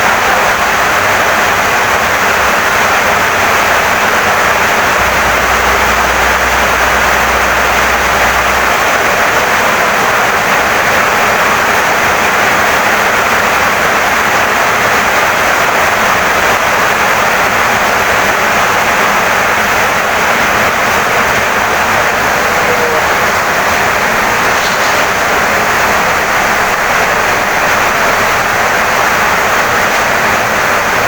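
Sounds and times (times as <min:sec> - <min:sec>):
heavy rain on a wooden house: 0:00.0 - 0:31.0.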